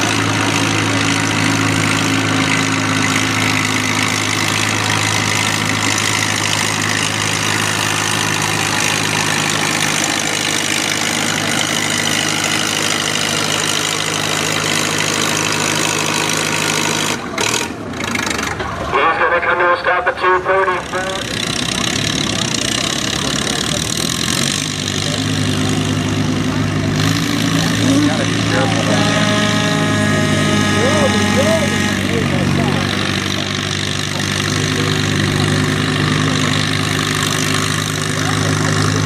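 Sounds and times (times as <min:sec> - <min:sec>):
tractor diesel engine running: 0:00.0 - 0:39.0
uneven engine rumble: 0:00.0 - 0:39.0.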